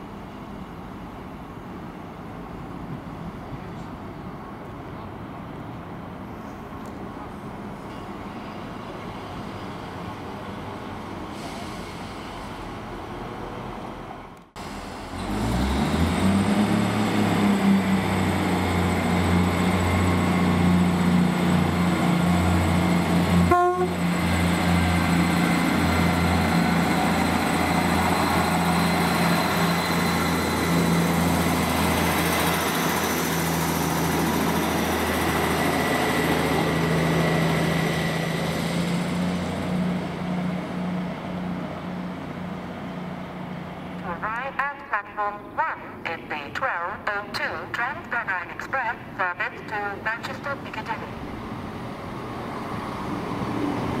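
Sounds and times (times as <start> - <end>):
train engine droning: 0.0 - 45.6.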